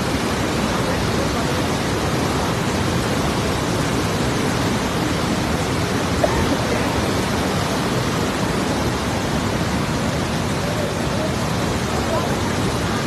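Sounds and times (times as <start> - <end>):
river torrent rushing: 0.0 - 13.0.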